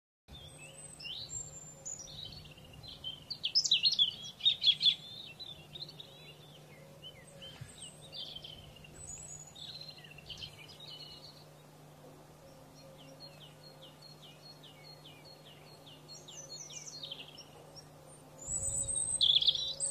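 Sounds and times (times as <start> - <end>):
canaries singing: 0.3 - 19.9
low steady hum: 0.3 - 19.9.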